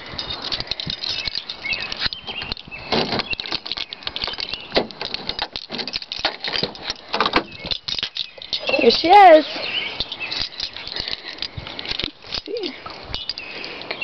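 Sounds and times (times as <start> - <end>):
keys rattling: 0.0 - 14.0.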